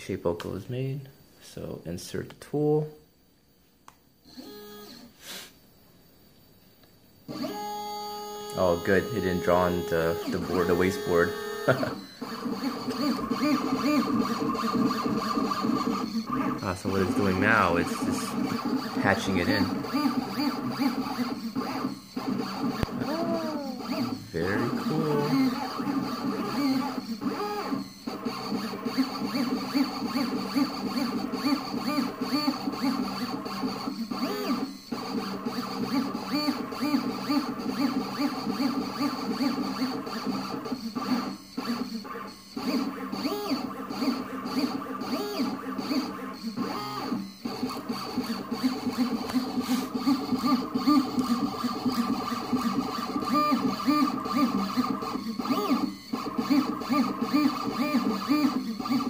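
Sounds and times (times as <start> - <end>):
stepper motors whining: 7.3 - 59.0.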